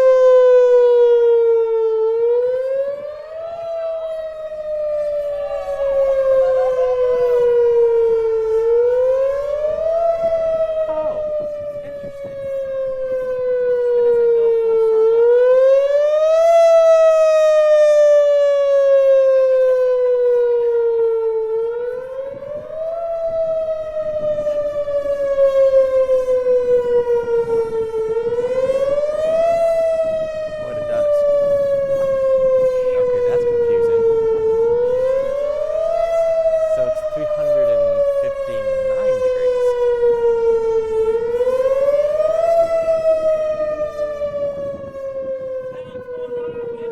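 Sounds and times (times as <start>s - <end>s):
warning siren wailing: 0.0s - 46.9s.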